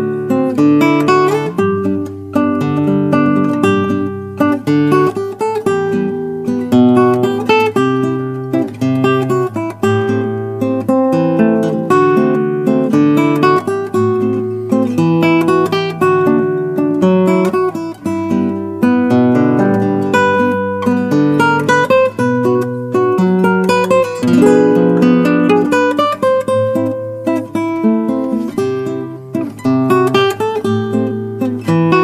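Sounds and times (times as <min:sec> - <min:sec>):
guitar music: 0:00.0 - 0:32.0.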